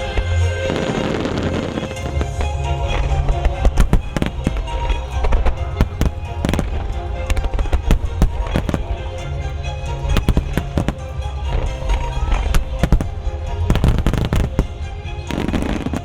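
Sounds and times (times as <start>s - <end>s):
fireworks bursting: 0.0s - 16.0s
music with steady bass: 0.0s - 16.0s.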